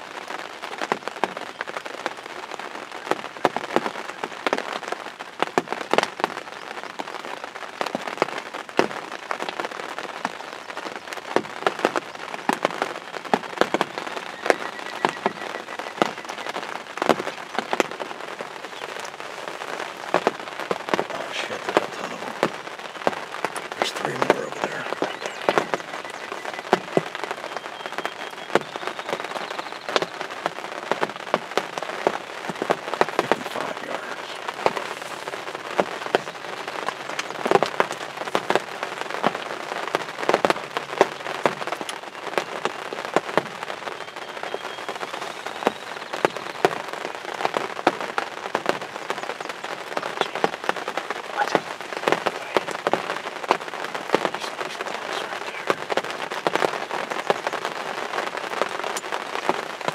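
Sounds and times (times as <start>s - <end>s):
raindrops hitting close by: 0.0s - 59.9s
steady rain: 0.0s - 59.9s.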